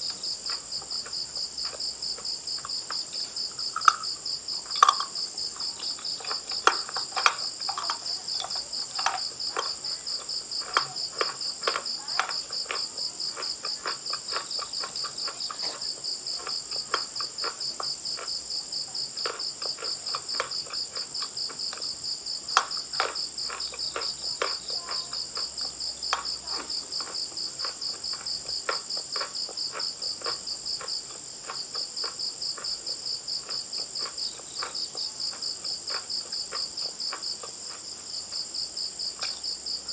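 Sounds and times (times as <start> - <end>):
chalk crunching being chewed: 0.0 - 39.9
cricket chirping: 0.0 - 39.9.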